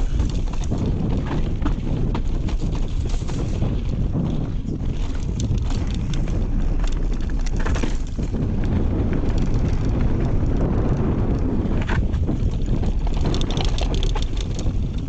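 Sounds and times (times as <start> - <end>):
bike clattering over rough ground: 0.0 - 15.0
wind rushing over microphone: 0.0 - 15.0.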